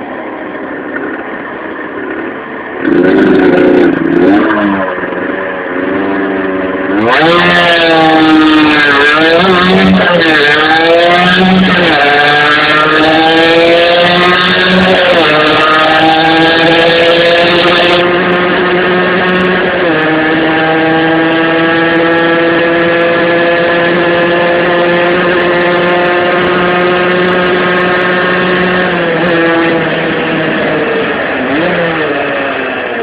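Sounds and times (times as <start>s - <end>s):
two-stroke engine revving high: 2.8s - 33.0s.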